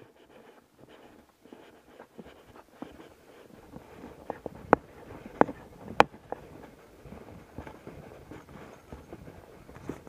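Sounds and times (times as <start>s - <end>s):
footsteps on wooden boardwalk: 0.0s - 10.0s.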